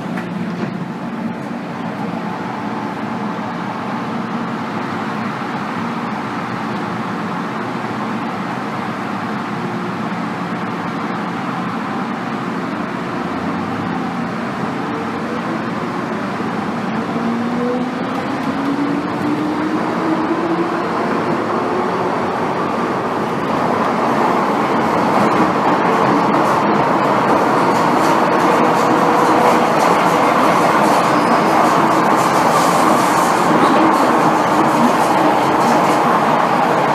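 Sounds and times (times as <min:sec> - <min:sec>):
train wheel and running noise: 0:00.0 - 0:36.9.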